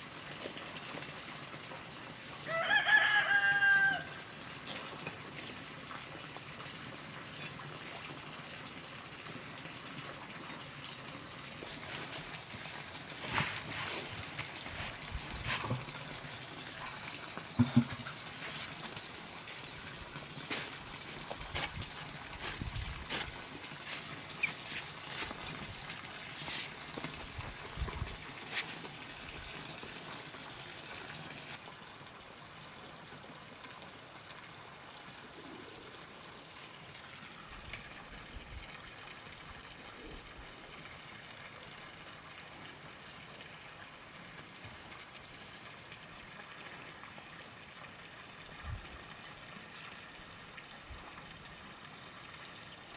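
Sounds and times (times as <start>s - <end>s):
water trickling: 3.6s - 52.9s.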